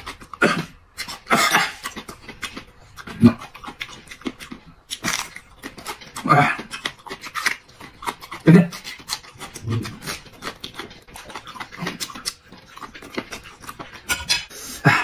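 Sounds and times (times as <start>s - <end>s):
man chewing with wet mouth clicks: 0.0s - 15.0s.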